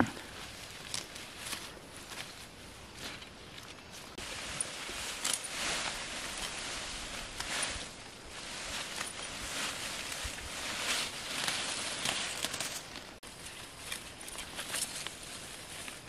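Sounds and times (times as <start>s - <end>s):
leaves rustling while picked: 0.0s - 16.0s.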